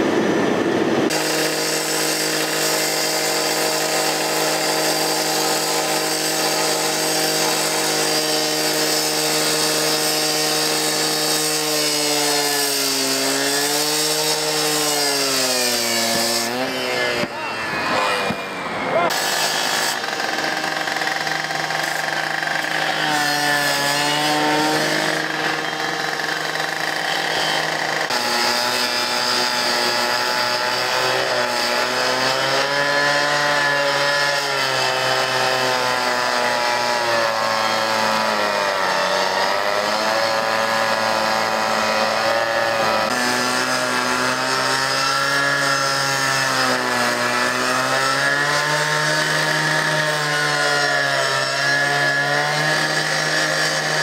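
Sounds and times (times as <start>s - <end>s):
saw cutting through metal: 0.0s - 54.0s.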